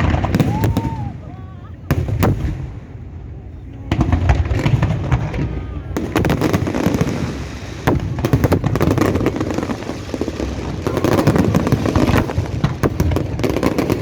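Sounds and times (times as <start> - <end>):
fireworks crackling and popping: 0.0 - 14.0.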